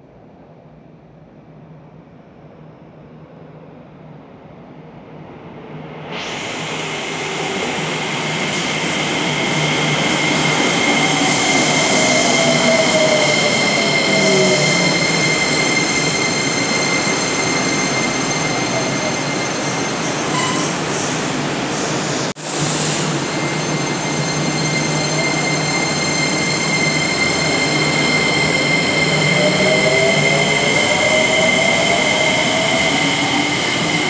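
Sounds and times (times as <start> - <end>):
falling tone of slowing train: 0.0 - 34.0
train running noise: 5.8 - 34.0.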